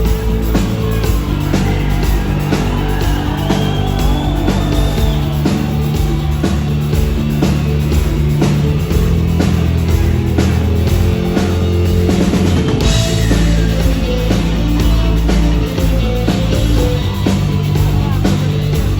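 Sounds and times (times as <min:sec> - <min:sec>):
drum kit beat: 0:00.0 - 0:18.9
rock band playing: 0:00.0 - 0:18.9.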